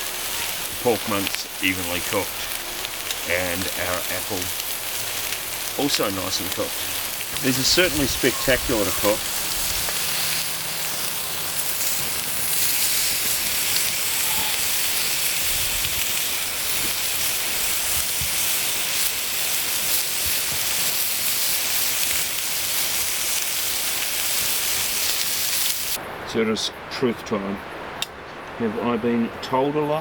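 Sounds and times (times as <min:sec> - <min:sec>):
meat sizzling on a hotplate: 0:00.0 - 0:26.0.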